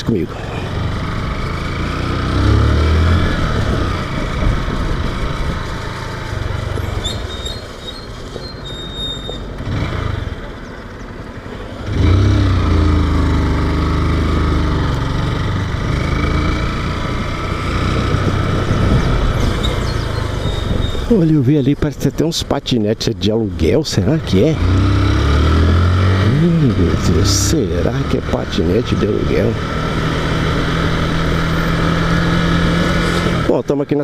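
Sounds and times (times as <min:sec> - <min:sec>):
motorcycle engine accelerating: 0:00.4 - 0:07.6, 0:09.4 - 0:21.3, 0:24.0 - 0:33.7.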